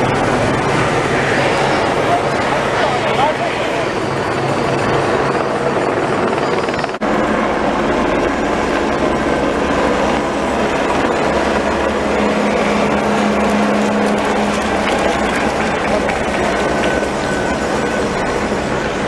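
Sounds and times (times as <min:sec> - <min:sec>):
loud mechanical drone: 0:00.0 - 0:19.0.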